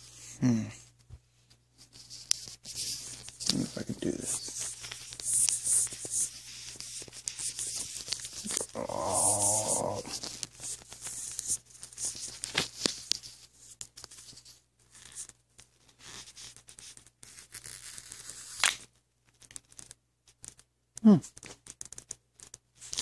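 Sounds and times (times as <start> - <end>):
crackling and scratching by hands: 0.0 - 23.0.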